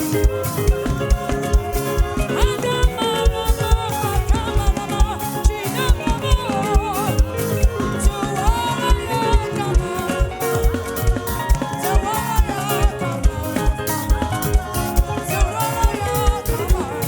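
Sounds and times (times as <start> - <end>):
live band playing gospel music: 0.0 - 17.0
sliding melodic line: 0.0 - 17.0
steady drum beat: 0.0 - 17.0.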